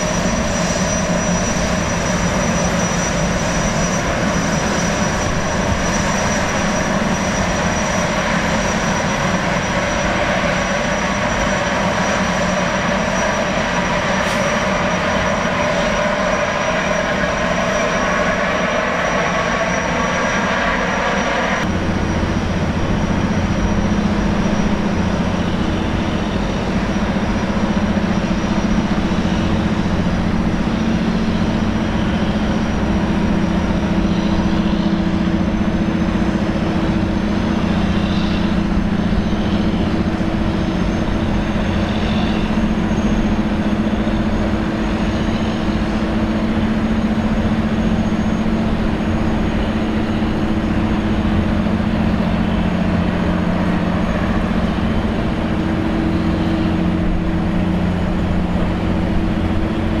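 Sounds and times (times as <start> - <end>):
turbine drone with high whine: 0.0 - 60.0.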